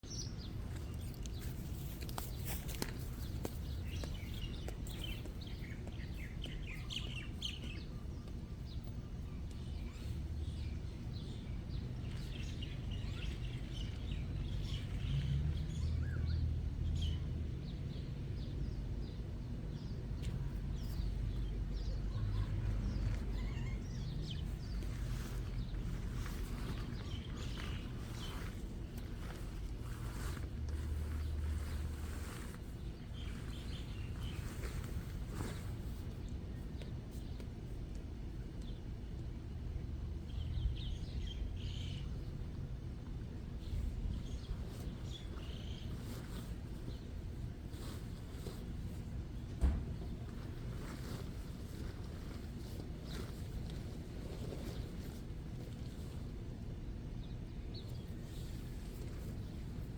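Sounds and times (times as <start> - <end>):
birds chirping: 0.0 - 17.8, 18.4 - 37.4, 40.2 - 42.6, 43.2 - 59.9
steady low rumble: 0.0 - 59.9.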